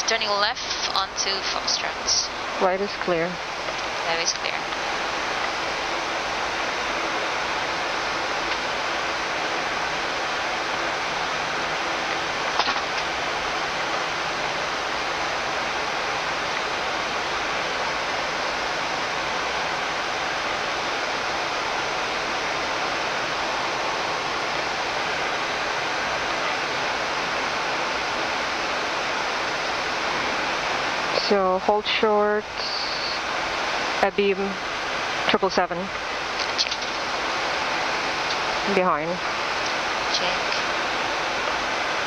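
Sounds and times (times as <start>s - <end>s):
cockpit ventilation airflow: 0.0s - 42.0s
jet engines at taxi power: 0.0s - 42.0s.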